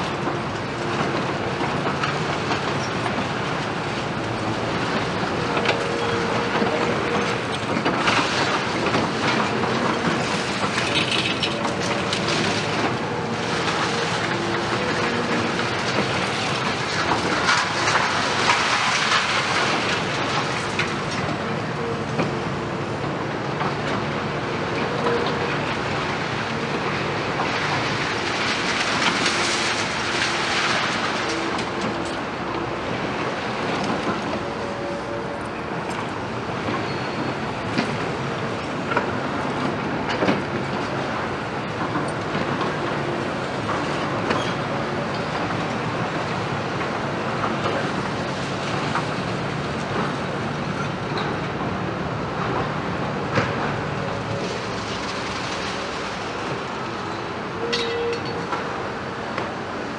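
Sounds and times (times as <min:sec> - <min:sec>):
diesel excavator engines: 0:00.0 - 0:59.9.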